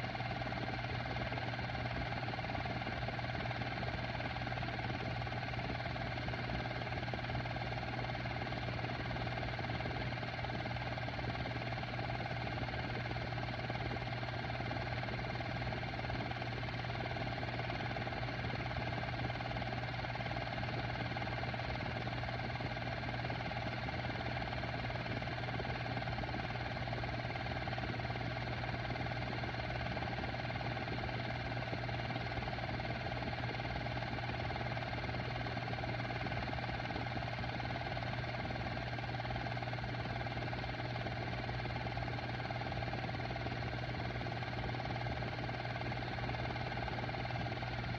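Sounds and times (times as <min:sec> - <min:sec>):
film projector running: 0:00.0 - 0:47.9.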